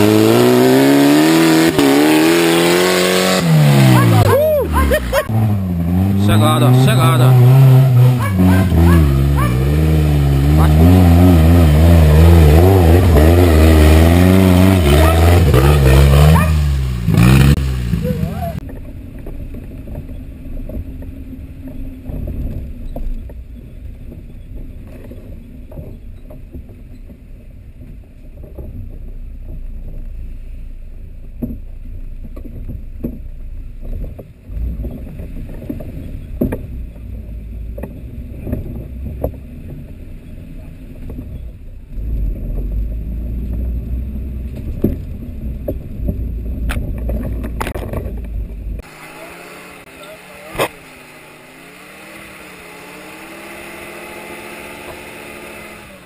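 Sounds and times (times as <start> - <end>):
engine and drivetrain rumble: 0.0 - 56.0.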